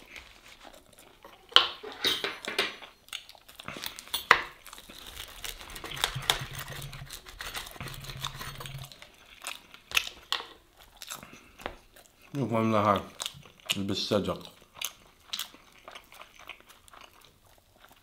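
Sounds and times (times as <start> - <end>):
pizza cutter crunching through bread: 3.2 - 18.0.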